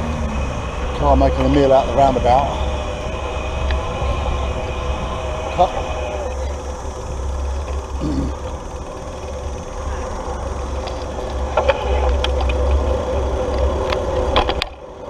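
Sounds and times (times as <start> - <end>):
steady tyre hum: 0.0 - 15.0
wind rumbling on microphone: 0.0 - 15.0.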